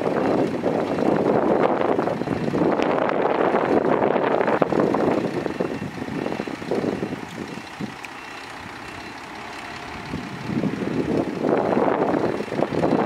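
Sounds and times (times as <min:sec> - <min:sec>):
dump truck engine running: 0:00.0 - 0:13.0
faint steady whine: 0:00.0 - 0:13.0
wind buffeting microphone: 0:00.0 - 0:13.0.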